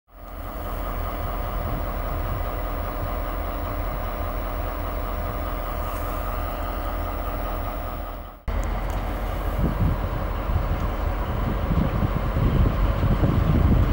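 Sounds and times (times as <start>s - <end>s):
diesel locomotives idling: 0.1s - 13.9s.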